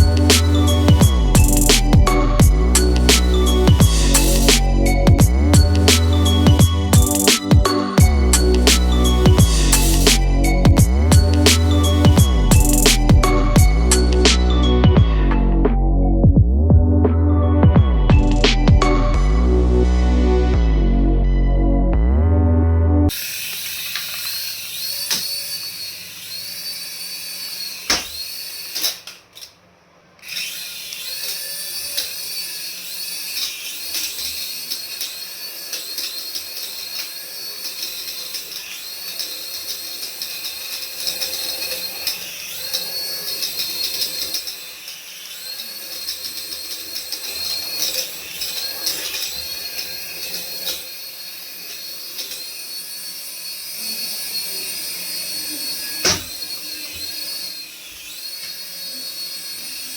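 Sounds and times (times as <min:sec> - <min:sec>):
toy electric motor whining: 0:00.0 - 0:15.6, 0:23.1 - 0:59.9.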